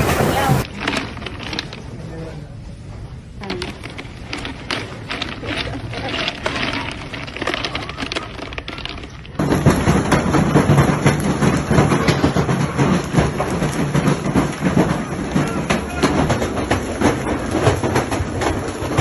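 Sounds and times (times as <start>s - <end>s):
hailstones clattering: 0.0s - 1.8s, 3.5s - 19.0s.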